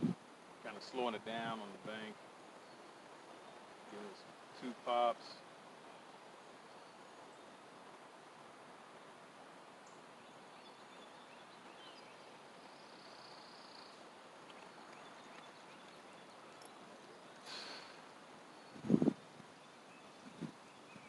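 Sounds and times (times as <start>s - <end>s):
faint outdoor ambience: 0.0s - 21.0s.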